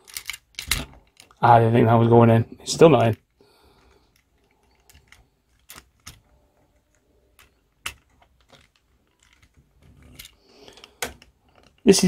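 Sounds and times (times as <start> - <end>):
plastic toy parts clicking: 0.0 - 1.4, 2.9 - 11.9.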